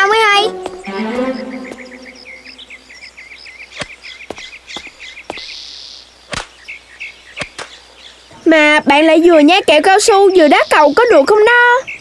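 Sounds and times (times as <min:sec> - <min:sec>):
birds chirping rapidly: 0:00.0 - 0:12.0.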